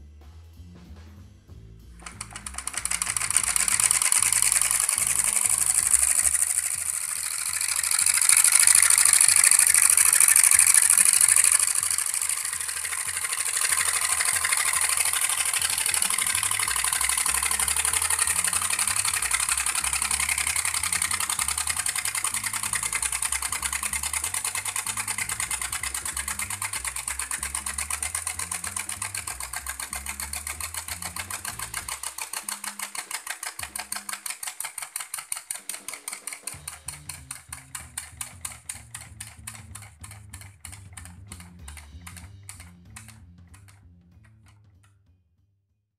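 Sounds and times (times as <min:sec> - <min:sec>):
engine mechanical clicking: 0:01.9 - 0:44.7.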